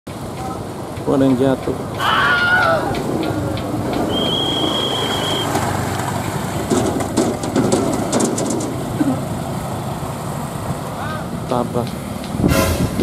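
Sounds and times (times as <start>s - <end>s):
motorcycle engines idling and pulling away: 0.1s - 13.0s.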